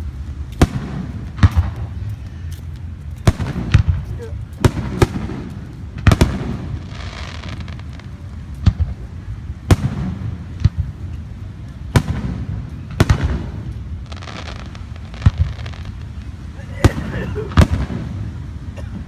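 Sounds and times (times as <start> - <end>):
fireworks crackling: 0.0 - 19.0
fireworks bangs: 0.5 - 2.3, 3.2 - 11.2, 11.8 - 18.5.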